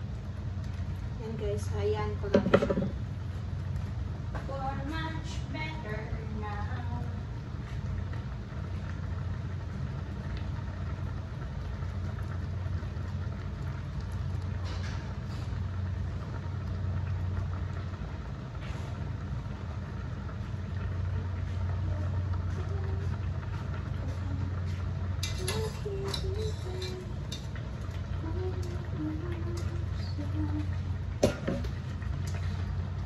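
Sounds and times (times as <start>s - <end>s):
water boiling in a pot: 0.0s - 33.0s.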